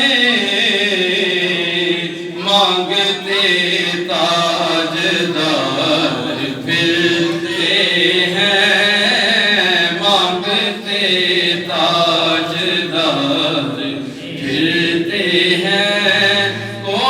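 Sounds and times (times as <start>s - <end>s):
voices chanting devotional poem: 0.0s - 17.0s.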